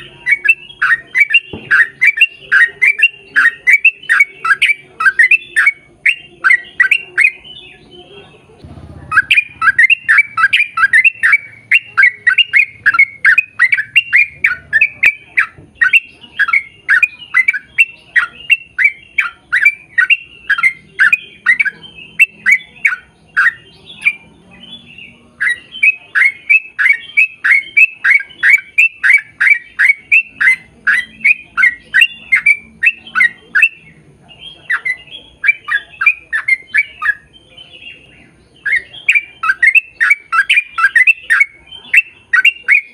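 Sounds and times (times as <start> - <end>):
bird calling in sharp calls: 0.0 - 8.0, 8.8 - 42.9.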